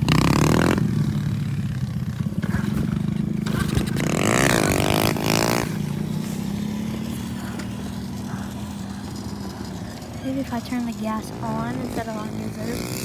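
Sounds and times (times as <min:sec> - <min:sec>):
pit bike engine revving: 0:00.0 - 0:13.0.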